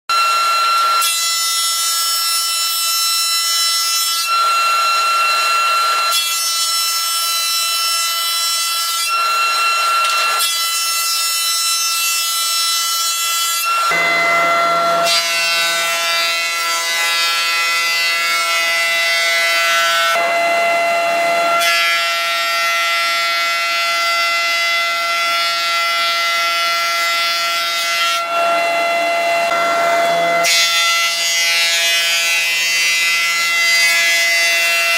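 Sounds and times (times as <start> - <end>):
woodworking machine cutting timber: 0.1 - 34.9.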